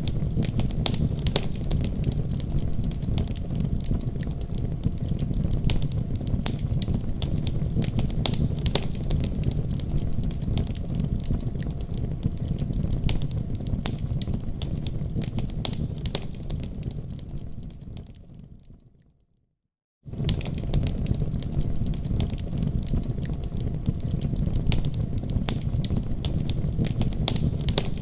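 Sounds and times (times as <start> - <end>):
fire crackling in fireplace: 0.0 - 19.1, 20.1 - 28.0.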